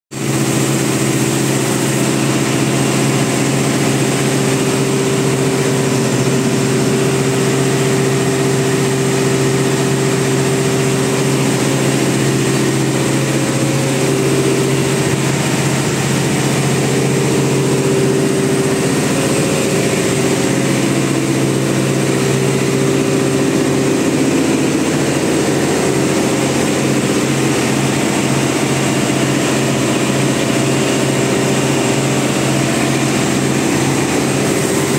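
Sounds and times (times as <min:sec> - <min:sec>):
diesel engine droning: 0:00.2 - 0:34.9.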